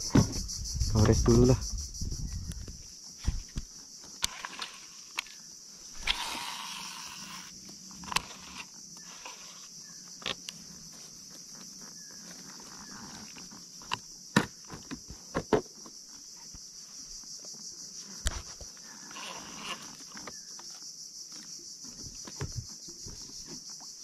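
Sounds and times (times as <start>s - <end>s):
insects chirring: 0.0s - 24.0s
rustle: 1.6s - 14.2s, 14.8s - 24.0s.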